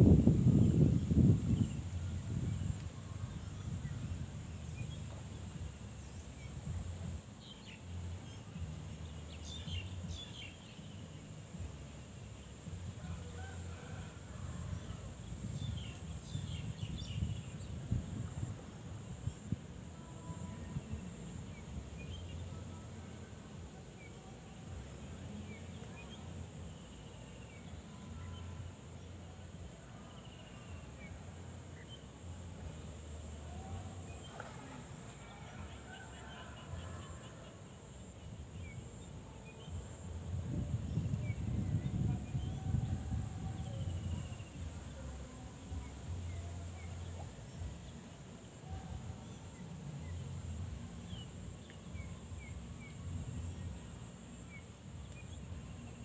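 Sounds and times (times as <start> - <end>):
insects droning: 0.0 - 56.0
wind rumble on microphone: 0.0 - 56.0.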